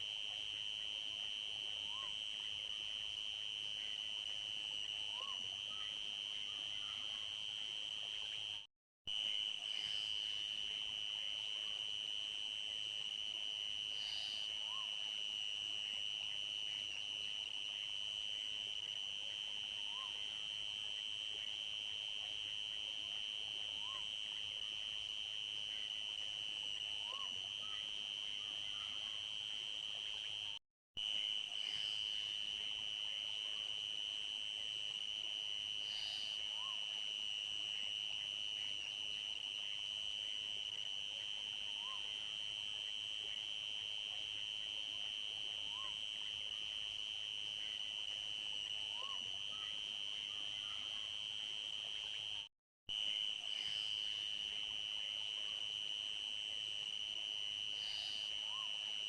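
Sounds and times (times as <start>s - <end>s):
crickets chirping: 0.2s - 59.0s
insects trilling: 0.4s - 59.0s.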